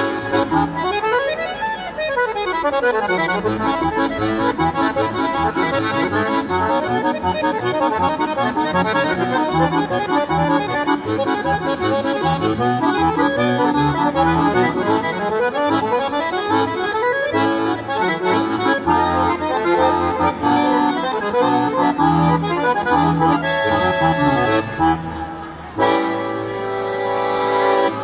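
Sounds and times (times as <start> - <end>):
accordion playing: 0.0 - 28.0.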